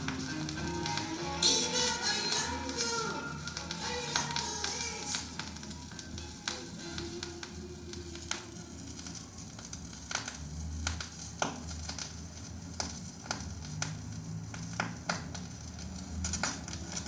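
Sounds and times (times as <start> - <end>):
faint crackle: 0.0 - 17.0.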